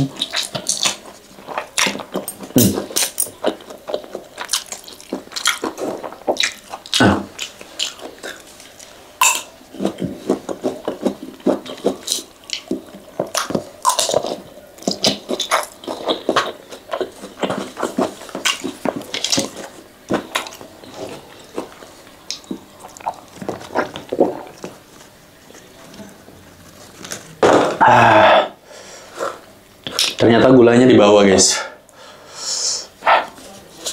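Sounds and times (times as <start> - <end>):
chewing and mouth sounds: 0.0 - 27.3.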